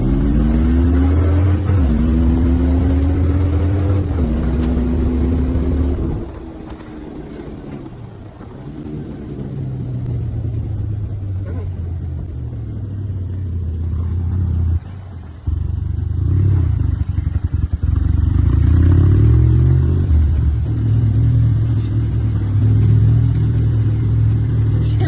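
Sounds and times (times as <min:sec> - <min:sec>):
vehicle engine accelerating: 0:00.0 - 0:25.0.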